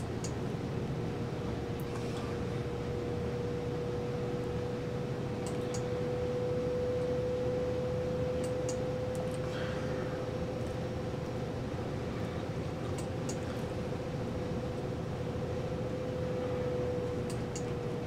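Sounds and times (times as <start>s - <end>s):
low background rumble: 0.0s - 18.0s
steady hum: 0.0s - 18.0s.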